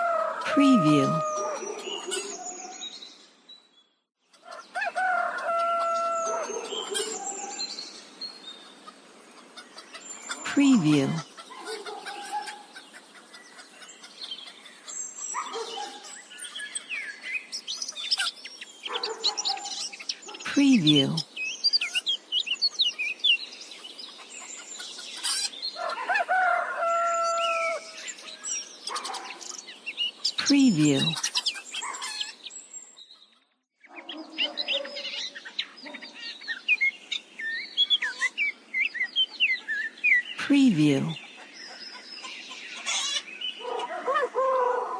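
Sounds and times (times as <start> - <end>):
songbirds chirping and whistling: 0.0 - 10.6, 11.2 - 20.5, 21.1 - 30.4, 31.0 - 40.4, 41.2 - 44.8.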